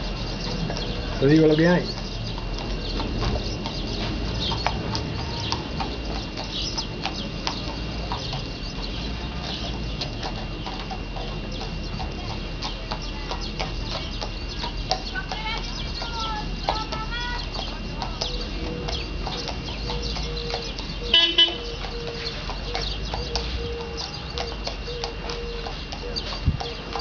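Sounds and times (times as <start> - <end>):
birds chirping: 0.0 - 27.0
horse hooves on asphalt: 0.0 - 27.0.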